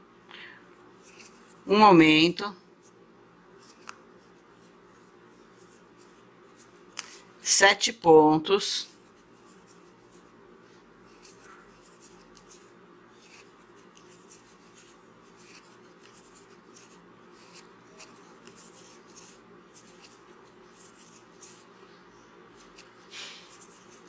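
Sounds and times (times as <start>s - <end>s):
low steady hum: 0.0s - 24.0s
crochet hook rustling yarn: 0.8s - 2.2s, 2.8s - 7.3s, 8.6s - 24.0s.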